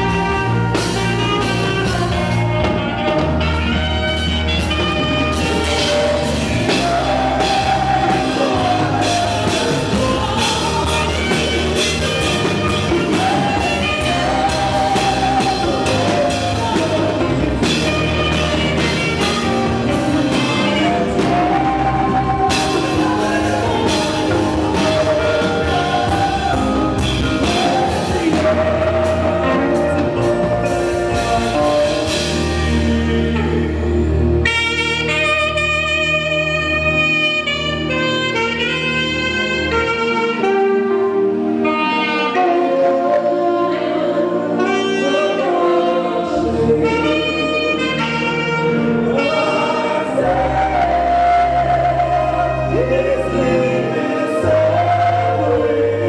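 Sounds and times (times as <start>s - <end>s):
drum kit and band: 0.0s - 56.0s
saxophone melody: 0.0s - 56.0s.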